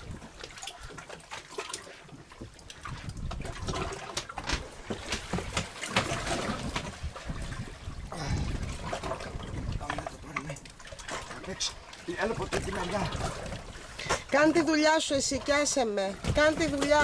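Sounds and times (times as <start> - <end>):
small splashes and clicks: 0.0 - 17.0
water lapping against boat hull: 0.0 - 17.0.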